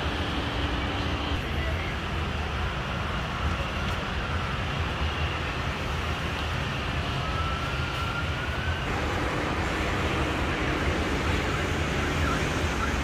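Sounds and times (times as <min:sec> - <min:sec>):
ride machinery rumble and hiss: 0:00.0 - 0:13.0.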